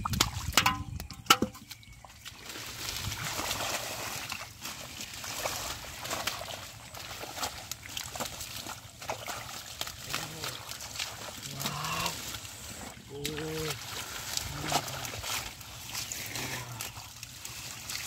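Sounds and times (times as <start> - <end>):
hands squelching in mud: 0.0 - 18.0
sharp water splashes: 0.0 - 18.0
wading through muddy water: 0.0 - 18.0.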